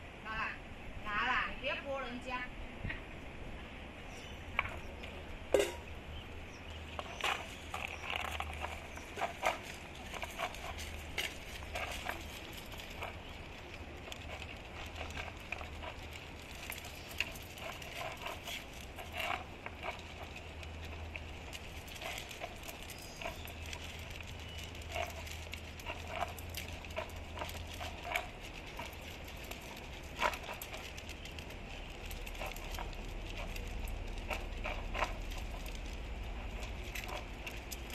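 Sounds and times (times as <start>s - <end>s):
dogs crunching kibble: 4.1s - 37.9s
kibble clicking against bowls: 4.2s - 37.9s.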